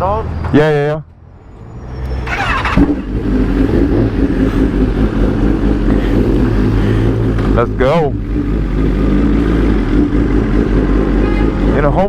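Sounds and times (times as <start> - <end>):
motorcycle engine idling: 2.3 - 12.0.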